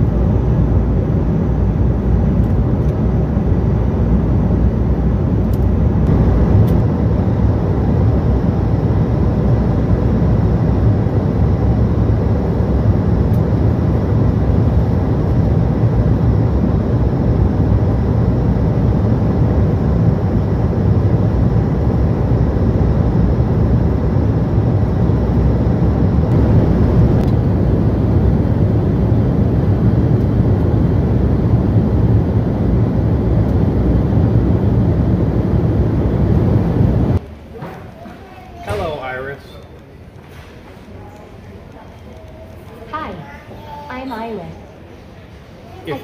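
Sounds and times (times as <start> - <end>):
airliner cabin noise: 0.0 - 37.2.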